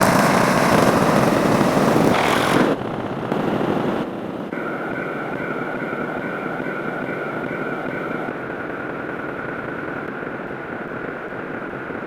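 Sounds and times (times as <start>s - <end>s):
loud noisy sound effects: 0.0s - 12.0s.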